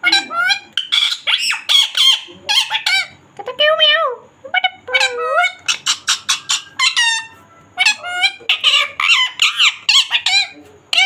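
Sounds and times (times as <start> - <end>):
parrot squawking: 0.0 - 11.0.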